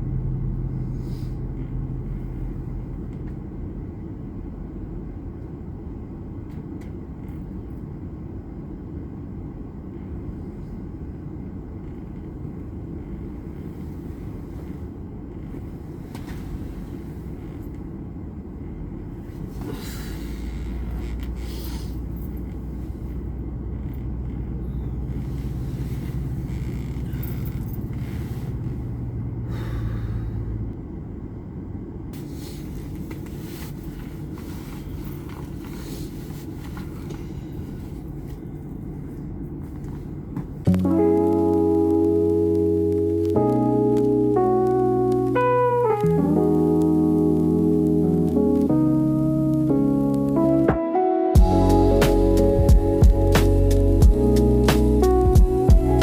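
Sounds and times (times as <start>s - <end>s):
diesel engine rumbling: 0.0s - 50.8s, 51.4s - 56.0s.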